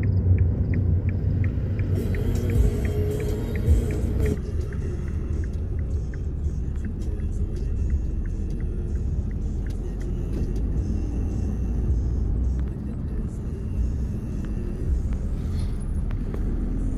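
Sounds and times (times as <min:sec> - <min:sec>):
car engine and road noise: 0:00.0 - 0:16.9.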